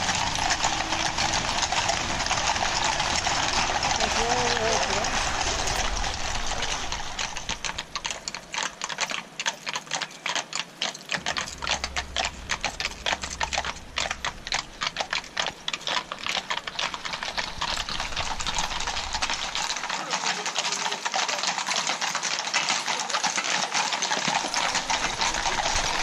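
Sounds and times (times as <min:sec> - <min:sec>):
horse hooves on pavement: 0:00.0 - 0:26.0.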